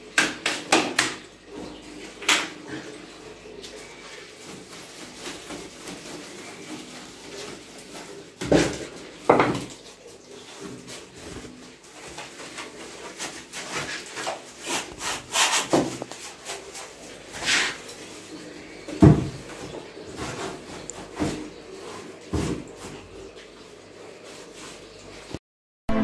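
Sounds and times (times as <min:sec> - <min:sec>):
sponge scrubbing tiles: 0:00.0 - 0:25.4.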